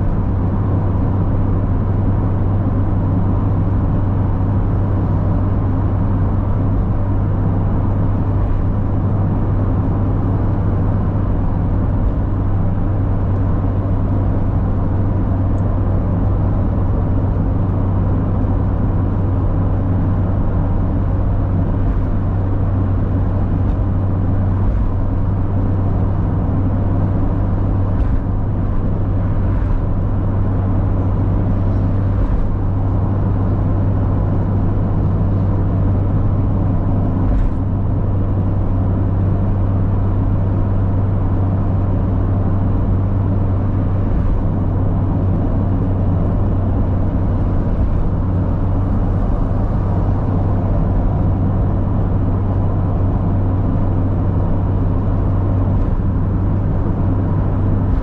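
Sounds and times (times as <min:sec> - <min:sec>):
car engine cruising: 0:00.0 - 0:58.0
tyre and road noise: 0:00.0 - 0:58.0.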